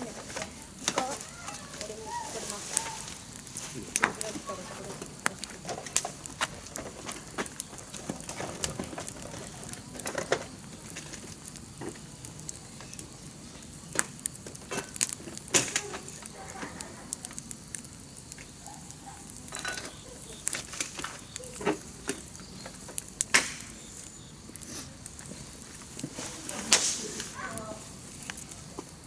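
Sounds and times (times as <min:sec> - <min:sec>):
campfire crackling and popping: 0:00.0 - 0:29.0
low hiss: 0:00.0 - 0:29.0.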